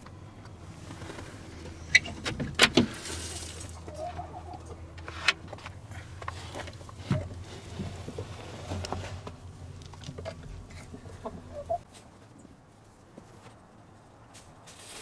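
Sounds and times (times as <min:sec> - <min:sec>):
low steady hum: 0:00.0 - 0:12.7.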